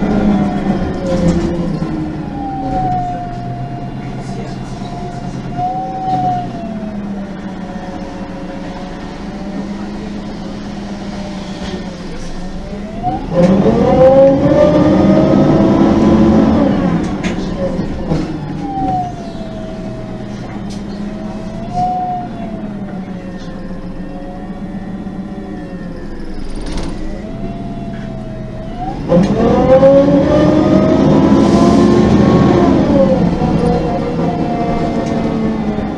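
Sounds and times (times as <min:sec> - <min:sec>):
bus engine revving: 0:00.0 - 0:35.9.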